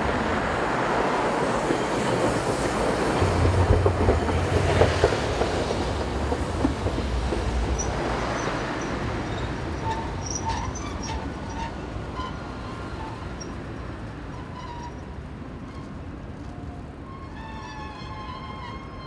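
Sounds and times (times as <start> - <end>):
street traffic: 0.0 - 19.0
tram rumbling: 0.0 - 19.0
tram wheels clicking and squealing: 1.3 - 19.0.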